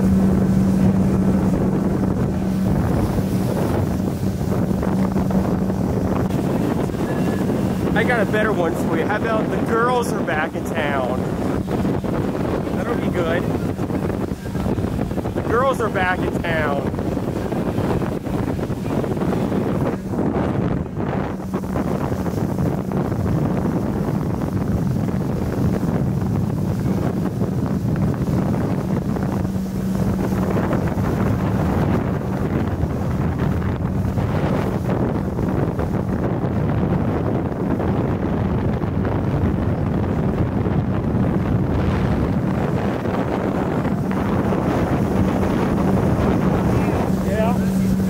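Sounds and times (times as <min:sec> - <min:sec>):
boat motor humming: 0:00.0 - 0:48.0
wind buffeting microphone: 0:00.0 - 0:48.0.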